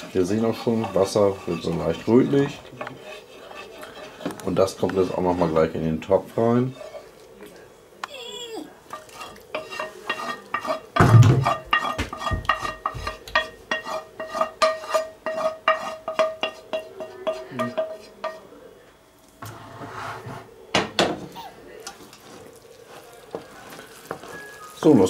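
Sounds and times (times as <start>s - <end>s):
spatula scraping frying pan: 0.0s - 7.2s, 8.8s - 18.4s, 19.4s - 20.5s, 21.3s - 25.0s.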